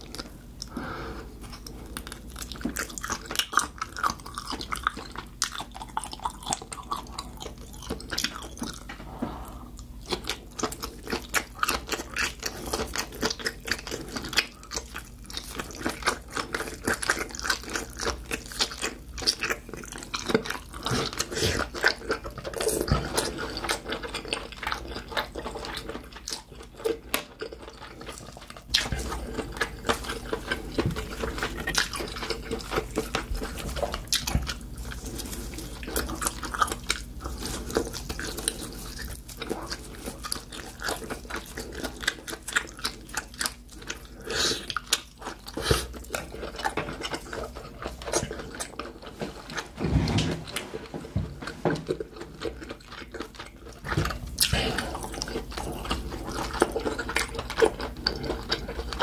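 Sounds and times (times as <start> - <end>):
wet chewing and mouth clicks: 1.4 - 9.0, 9.7 - 49.8, 50.5 - 59.0.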